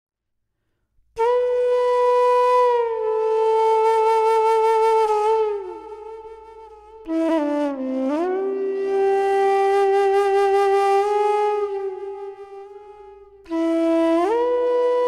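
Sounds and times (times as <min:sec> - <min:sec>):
flute long held note: 0:01.2 - 0:15.0.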